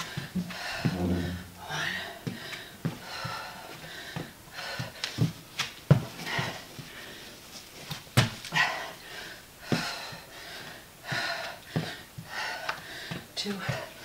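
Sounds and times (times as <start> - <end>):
person breathing hard: 0.0 - 5.4, 6.2 - 7.5, 8.5 - 14.0.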